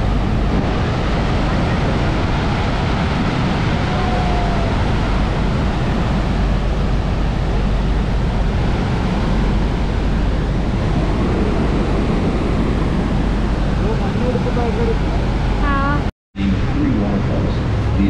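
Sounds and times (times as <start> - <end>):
waterfall roaring: 0.0 - 18.0
wind rumble on microphone: 0.0 - 18.0.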